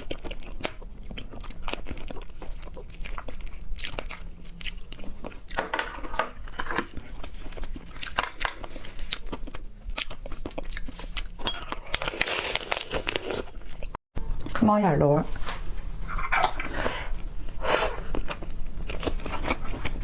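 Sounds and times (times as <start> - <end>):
chewing and crunching: 0.0 - 14.6, 15.2 - 20.0.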